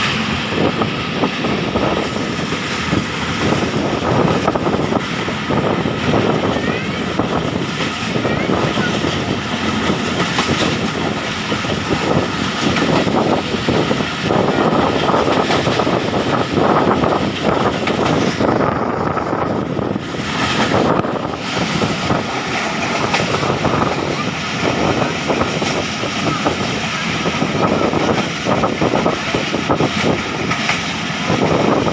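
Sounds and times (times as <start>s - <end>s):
train wheels rumbling and rattling: 0.0s - 31.9s.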